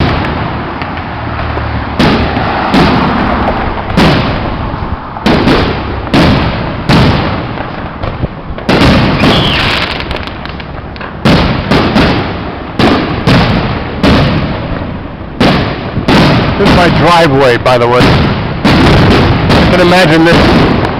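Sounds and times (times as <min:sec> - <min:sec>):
fireworks crackling: 0:00.0 - 0:20.9
loud fireworks bangs: 0:00.0 - 0:20.9.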